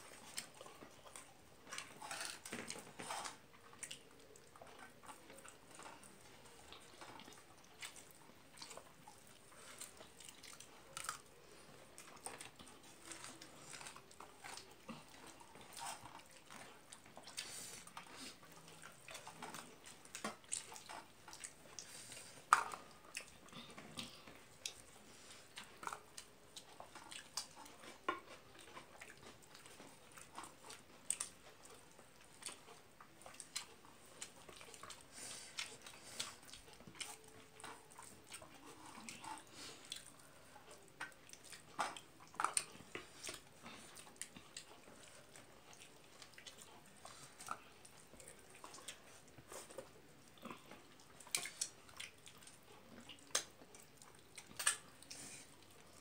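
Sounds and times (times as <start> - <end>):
chewing and mouth sounds: 0.0 - 56.0.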